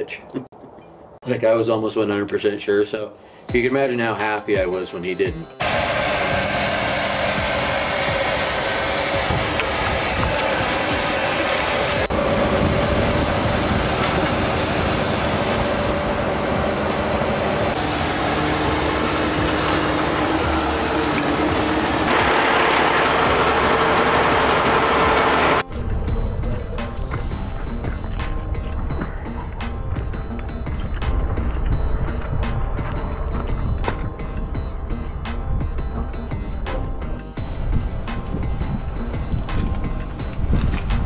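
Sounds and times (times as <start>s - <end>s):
diesel engine running with droning whine: 5.6s - 41.0s.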